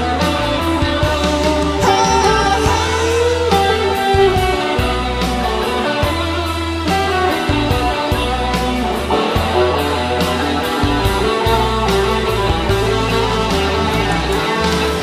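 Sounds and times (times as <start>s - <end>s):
electric guitar solo: 0.0s - 15.0s
rock backing with drums and bass: 0.0s - 15.0s.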